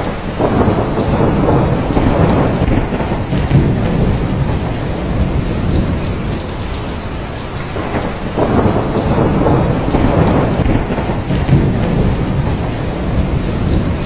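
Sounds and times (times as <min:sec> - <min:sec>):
heavy rain: 0:00.0 - 0:14.0
rolling thunder: 0:00.0 - 0:14.0.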